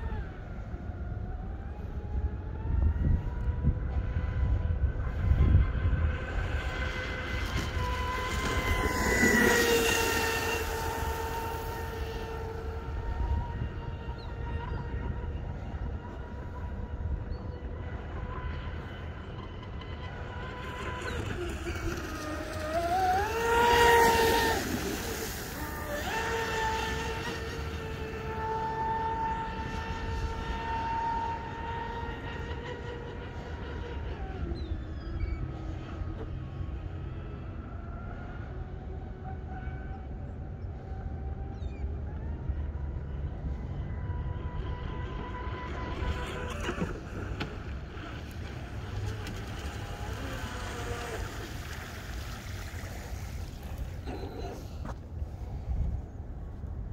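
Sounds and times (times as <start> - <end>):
model speedboat motor whine: 0.0 - 56.9
wind rumbling on microphone: 0.0 - 56.9.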